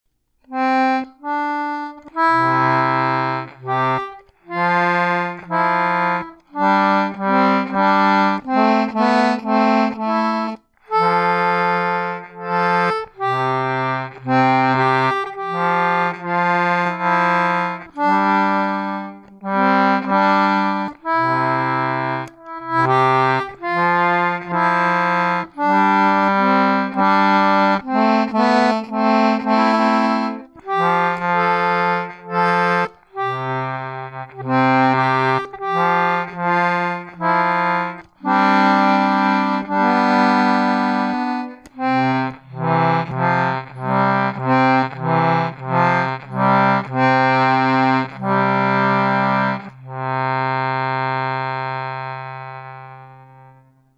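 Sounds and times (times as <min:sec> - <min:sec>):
concertina chords and melody: 0:00.4 - 0:53.9.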